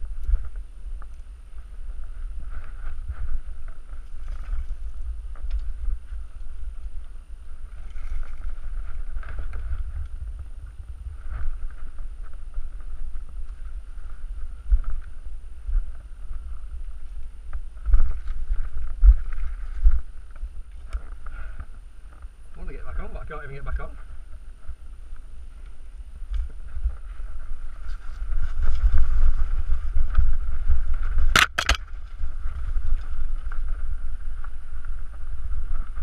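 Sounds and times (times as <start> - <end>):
wind on microphone: 0.0 - 36.0.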